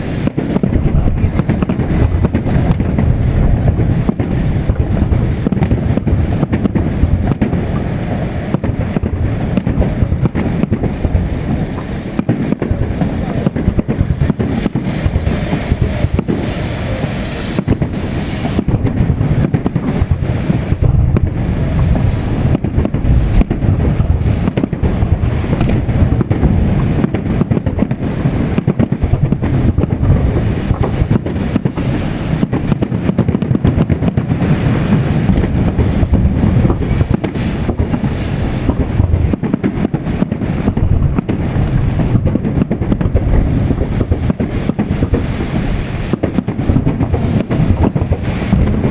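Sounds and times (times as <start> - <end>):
fireworks booms and crackles: 0.0 - 48.9
wind rumbling on microphone: 0.0 - 48.9.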